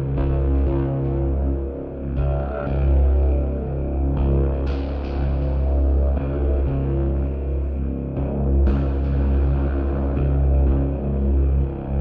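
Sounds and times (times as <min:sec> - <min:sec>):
background music with deep bass: 0:00.0 - 0:12.0.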